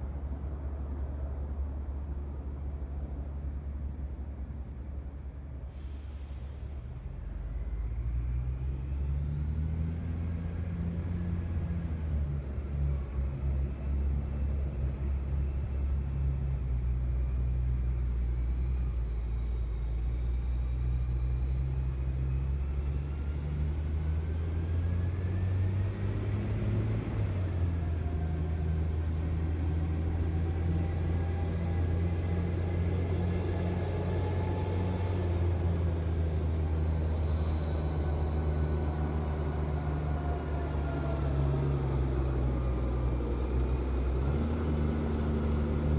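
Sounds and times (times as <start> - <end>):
truck engine drone: 0.0 - 45.9.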